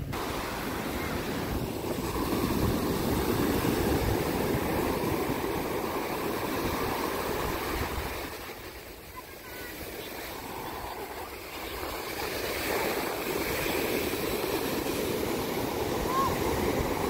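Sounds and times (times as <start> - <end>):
wind rumbling on microphone: 0.0 - 9.0, 10.0 - 17.0
ocean surf breaking: 0.0 - 17.0.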